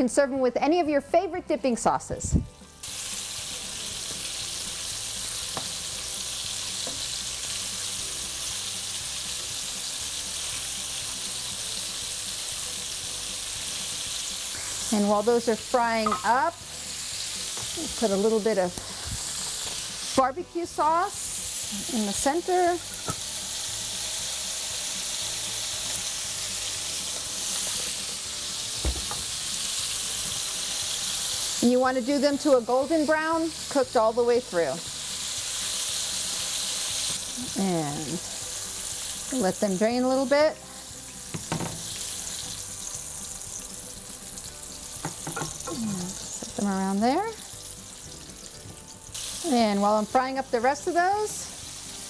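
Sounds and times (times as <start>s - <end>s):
meat deep-frying in oil: 2.8s - 52.0s.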